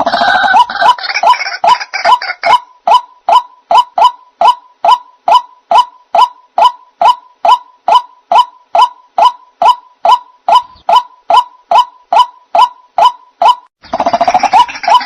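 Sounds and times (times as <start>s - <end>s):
harsh repeated waterhen call: 0.0s - 15.0s.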